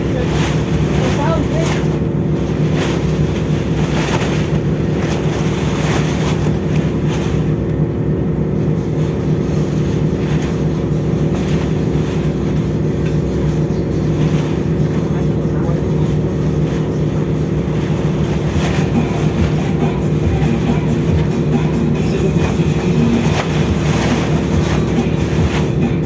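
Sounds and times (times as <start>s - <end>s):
ship engine drone: 0.0s - 26.0s.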